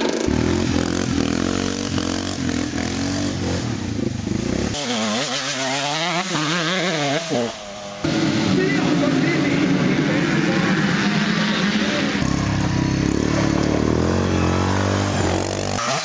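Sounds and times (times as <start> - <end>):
engine revving up and down: 0.0 - 16.0
motorcycle engine running: 0.0 - 16.0.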